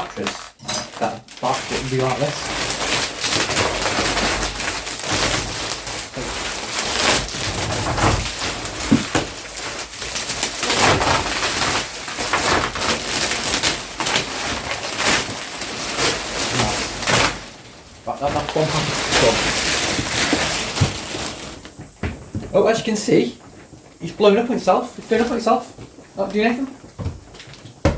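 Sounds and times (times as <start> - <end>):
plastic wrapping crinkling: 0.0 - 27.9.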